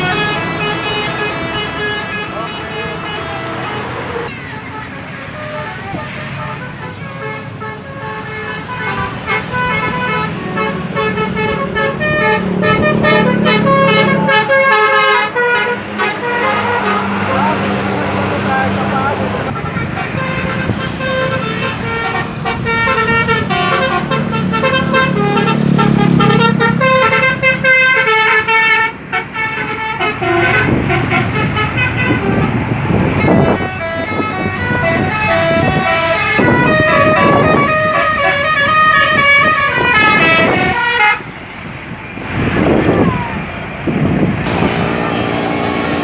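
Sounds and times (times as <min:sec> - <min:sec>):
multi-tone bus horn melody: 0:00.0 - 0:41.5, 0:43.9 - 0:46.0
bus engine running: 0:00.0 - 0:46.0.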